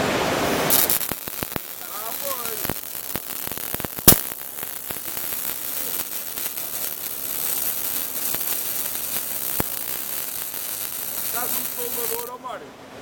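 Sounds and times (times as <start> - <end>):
welding arc crackling hiss: 0.0 - 12.3.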